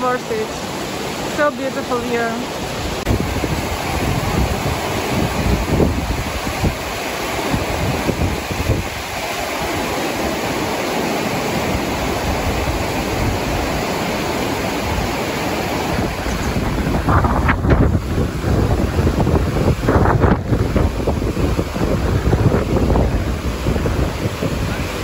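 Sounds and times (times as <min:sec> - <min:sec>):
flowing water rushing: 0:00.0 - 0:25.0
wind buffeting microphone: 0:00.0 - 0:25.0.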